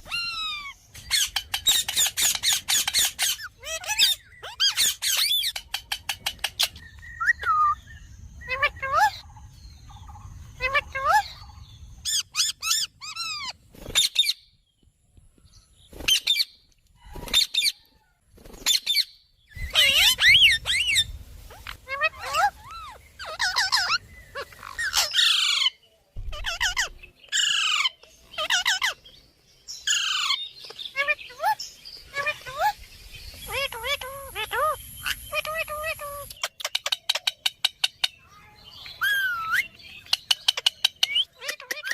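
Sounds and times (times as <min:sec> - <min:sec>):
lovebirds chirping and squawking: 0:00.0 - 0:41.9.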